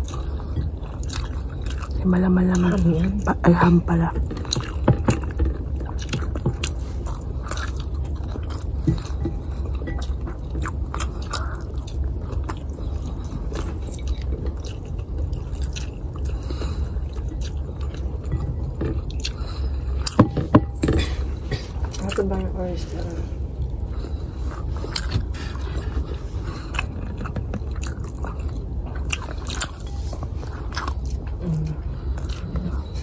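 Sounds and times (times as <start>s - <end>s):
chewing food: 0.0s - 33.0s
steady low hum: 0.0s - 33.0s.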